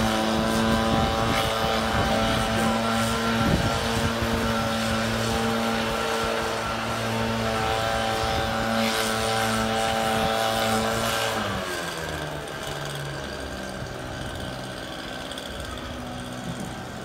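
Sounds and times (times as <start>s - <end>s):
leaf blower engine running: 0.0s - 17.0s.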